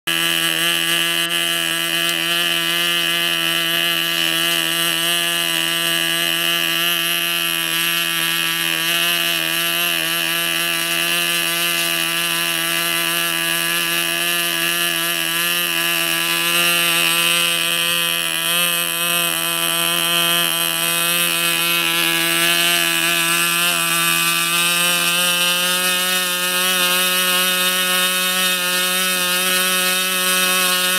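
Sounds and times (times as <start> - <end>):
model airplane engine buzzing: 0.0 - 30.9.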